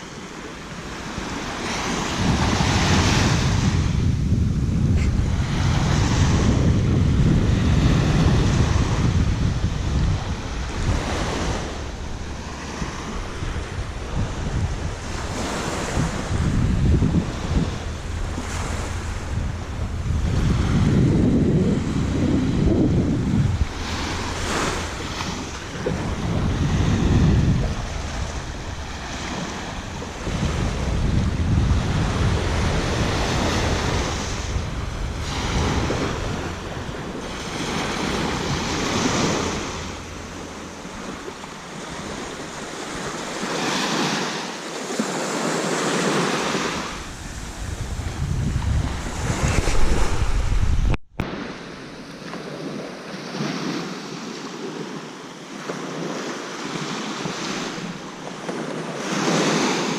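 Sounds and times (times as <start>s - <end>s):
sea waves washing onto beach: 0.0s - 59.9s
wind buffeting microphone: 0.0s - 59.9s.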